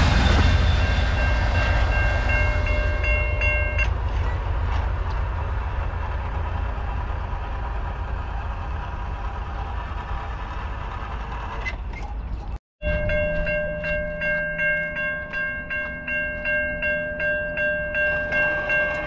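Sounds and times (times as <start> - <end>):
low outdoor rumble: 0.0 - 16.1.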